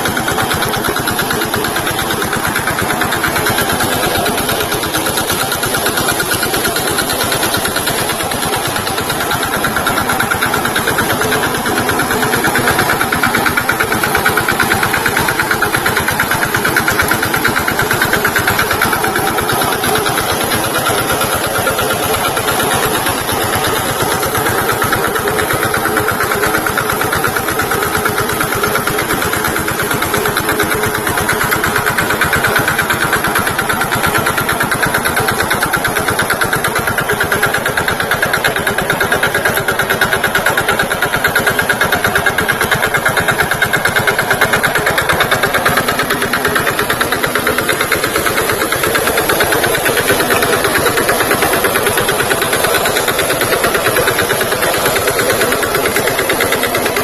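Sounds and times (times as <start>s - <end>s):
tractor diesel engine chugging: 0.0s - 57.0s.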